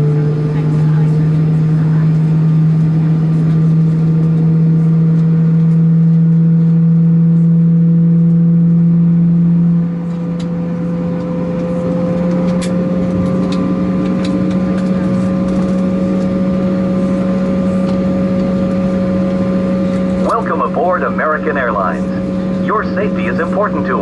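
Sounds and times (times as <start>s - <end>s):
jet airliner drone inside cabin: 0.0s - 24.0s.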